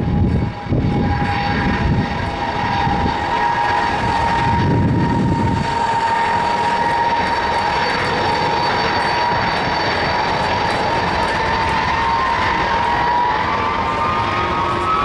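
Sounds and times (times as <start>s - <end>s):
jet engines whining while taxiing: 0.0s - 15.0s.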